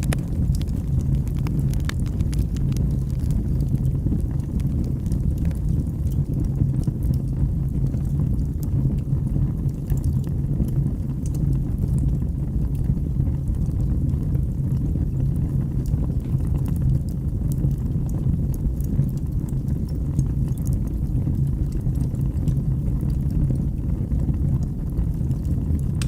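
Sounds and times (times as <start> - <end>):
wood fire rumbling and crackling: 0.0 - 26.0.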